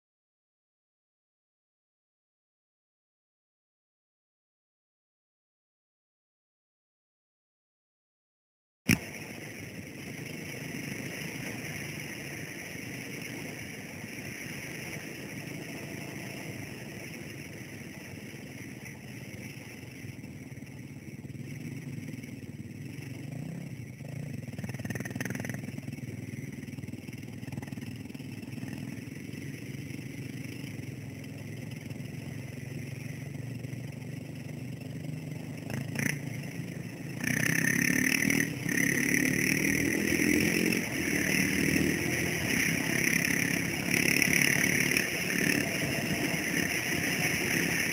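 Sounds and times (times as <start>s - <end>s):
dirt bike engine running: 8.9s - 47.9s.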